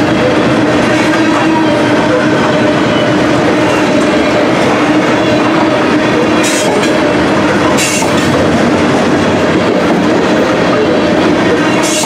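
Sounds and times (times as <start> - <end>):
train wheels clattering on rail: 0.0 - 12.0.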